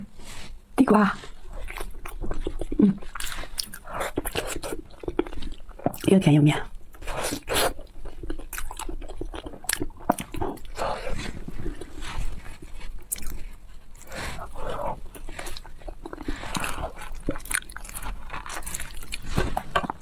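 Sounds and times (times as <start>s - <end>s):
person chewing food: 1.3s - 20.0s.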